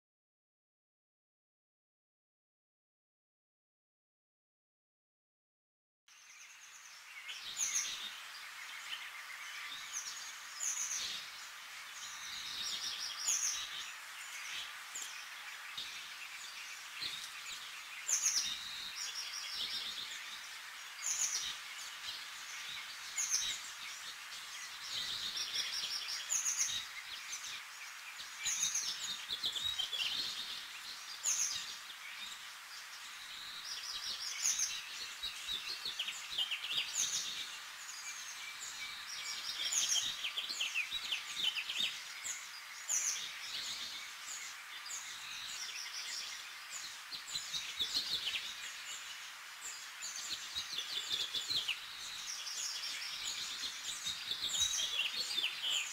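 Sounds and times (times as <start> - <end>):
birds chirping and trilling: 6.1 - 55.9
steady background hiss: 6.1 - 55.9.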